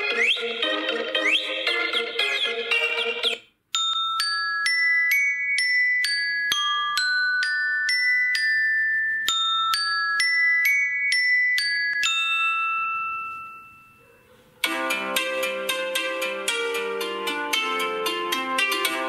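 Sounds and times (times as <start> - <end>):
phone ringtone chiming melody: 0.0 - 14.0, 14.6 - 19.0.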